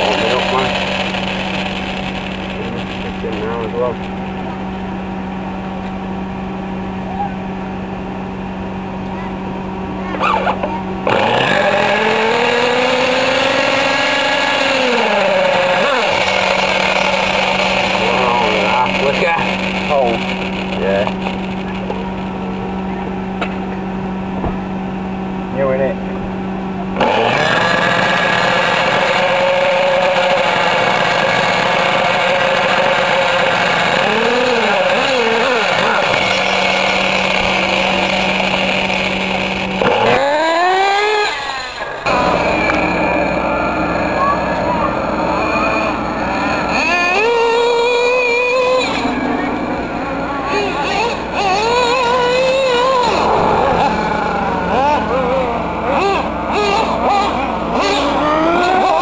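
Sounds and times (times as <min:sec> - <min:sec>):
model engine whining: 0:00.0 - 0:05.3, 0:10.0 - 0:23.3, 0:26.6 - 0:59.0.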